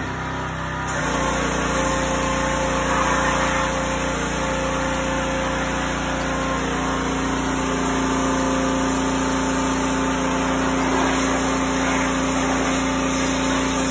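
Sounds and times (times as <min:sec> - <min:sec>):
pressure washer humming: 0:00.0 - 0:13.9
water jet hissing: 0:00.9 - 0:13.9.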